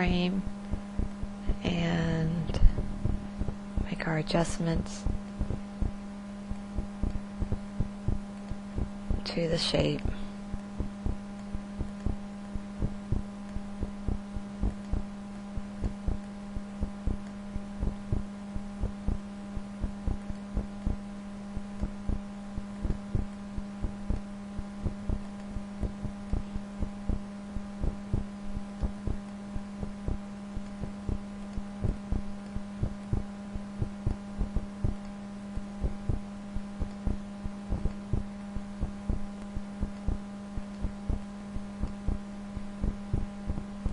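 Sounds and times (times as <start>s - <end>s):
electrical hum: 0.0s - 43.9s.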